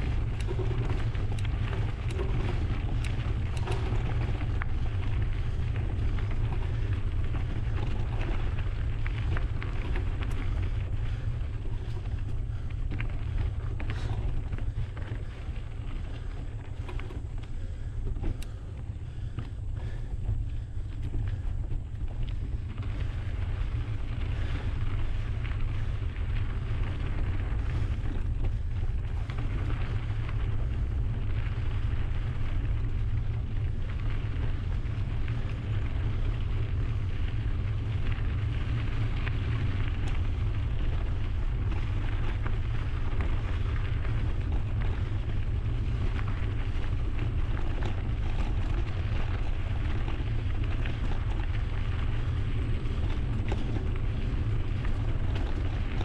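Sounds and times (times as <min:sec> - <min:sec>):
tyre and bike rattle: 0:00.0 - 0:56.0
wind buffeting microphone: 0:00.0 - 0:56.0.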